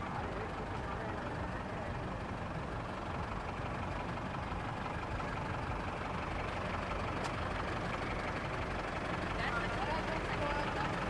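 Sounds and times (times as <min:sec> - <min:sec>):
street ambience: 0:00.0 - 0:11.0
vehicle engine idling: 0:00.0 - 0:11.0.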